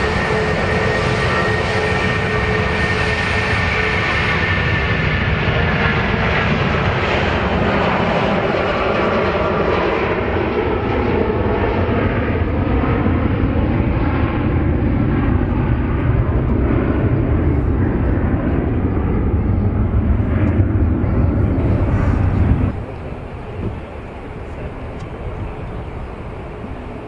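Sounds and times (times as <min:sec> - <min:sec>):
jet airliner engines passing: 0:00.0 - 0:27.0.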